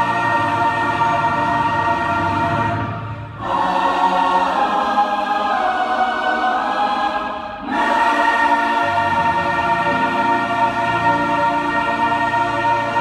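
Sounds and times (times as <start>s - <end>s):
choir singing held chords: 0.0s - 13.0s
keyboard accompaniment: 0.0s - 13.0s.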